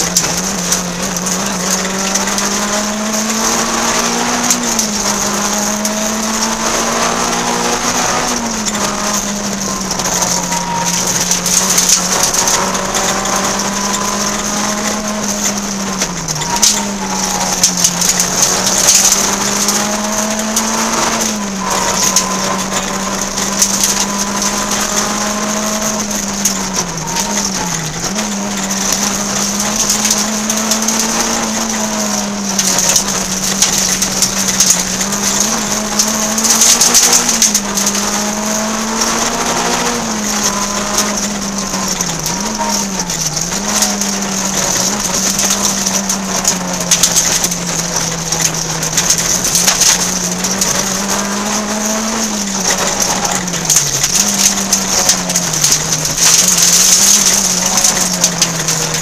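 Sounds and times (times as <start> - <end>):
car engine at high revs: 0.0 - 59.0
road noise hiss and crackling: 0.0 - 59.0.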